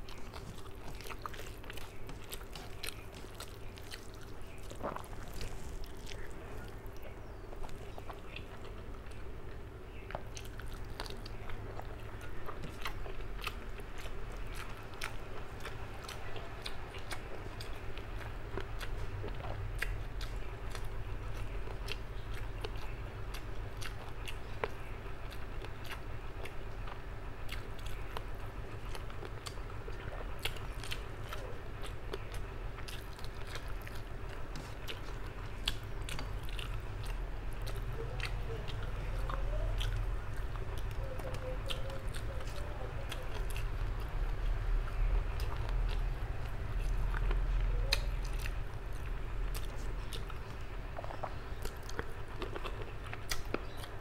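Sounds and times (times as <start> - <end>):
faint steady hum: 0.0 - 54.0
person chewing food: 0.0 - 54.0.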